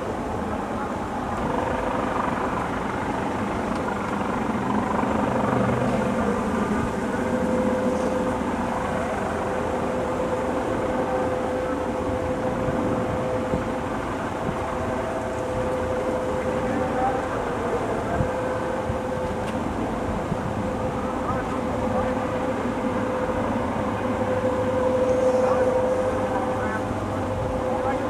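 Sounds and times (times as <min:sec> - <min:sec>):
helicopter engine and rotor: 0:00.0 - 0:28.0.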